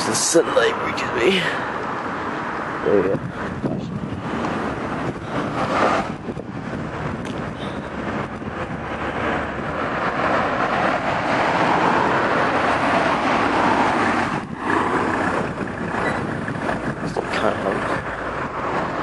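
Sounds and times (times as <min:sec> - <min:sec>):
vehicle interior rumble and hiss: 0:00.0 - 0:19.0.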